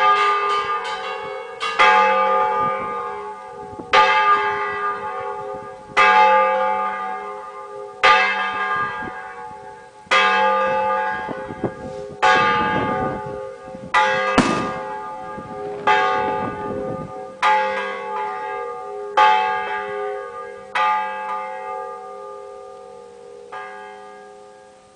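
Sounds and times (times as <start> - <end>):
church bells ringing: 0.0 - 24.9.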